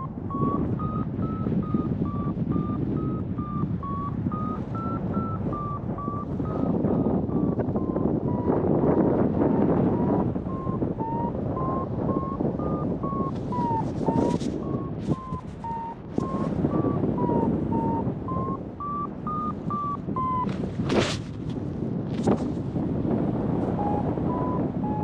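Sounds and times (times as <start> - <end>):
variometer beeping: 0.0 - 21.1, 23.4 - 25.0
wind on microphone: 0.0 - 25.0.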